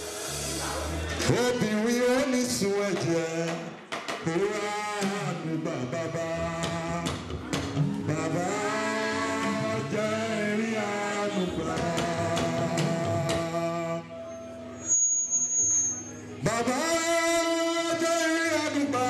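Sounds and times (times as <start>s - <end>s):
gospel singing with accompaniment: 0.0s - 19.0s.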